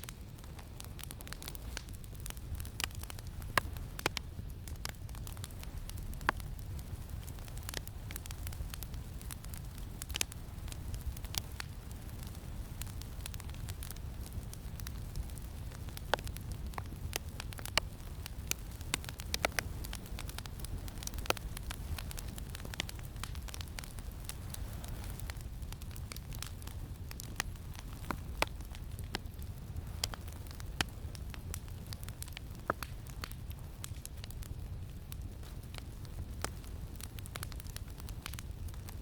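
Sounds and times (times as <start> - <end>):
campfire crackling and popping: 0.0 - 39.0
low wind rumble: 0.0 - 39.0.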